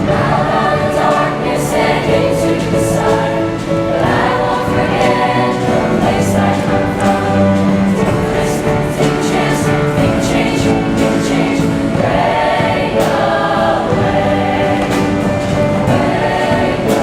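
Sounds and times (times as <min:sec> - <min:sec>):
accompaniment with steady beat: 0:00.0 - 0:17.0
choir singing: 0:00.0 - 0:17.0.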